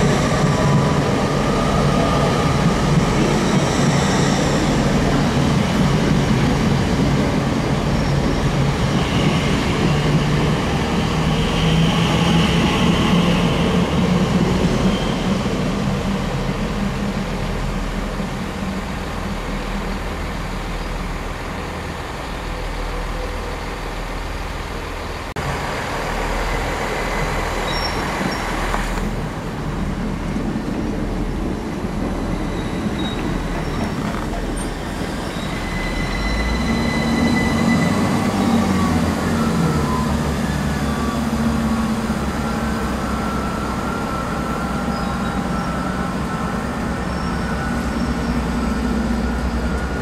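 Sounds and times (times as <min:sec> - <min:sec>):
train traction whine: 0:00.0 - 0:50.0
train wheels rumbling on rail: 0:00.0 - 0:50.0.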